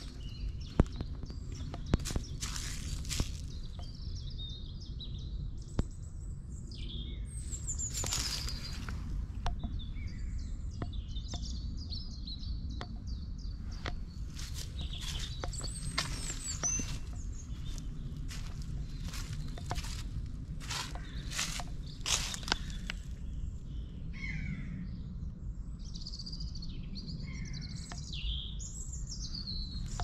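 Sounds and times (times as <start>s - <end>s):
songbirds chirping and trilling: 0.0s - 30.0s
steady low rumble: 0.0s - 30.0s.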